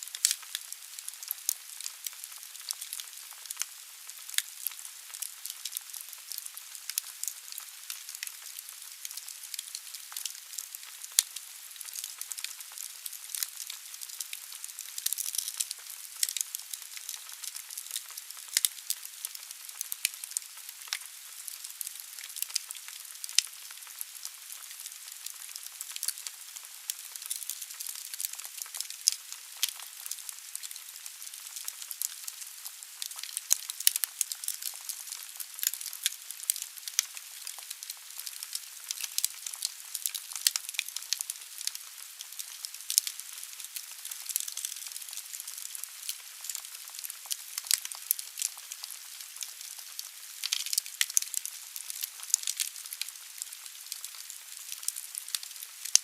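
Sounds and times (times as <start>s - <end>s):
logs crackling and popping: 0.0s - 56.0s.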